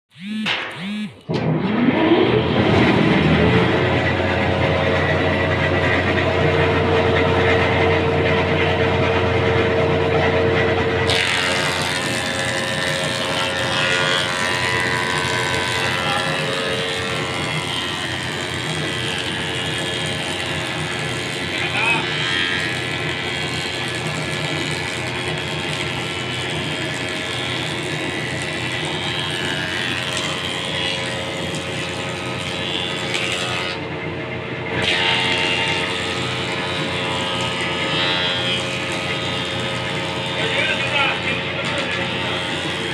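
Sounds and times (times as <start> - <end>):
machine running: 0.1 - 42.9.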